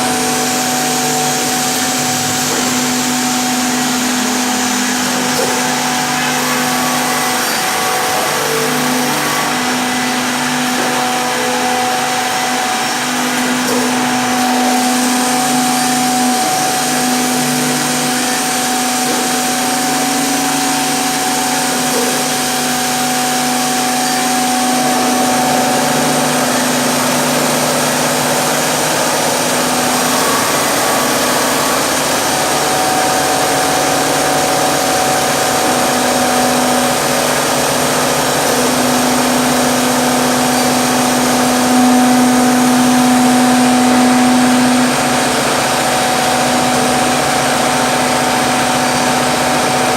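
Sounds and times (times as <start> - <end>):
woodworking machine motor whine: 0.0 - 49.9.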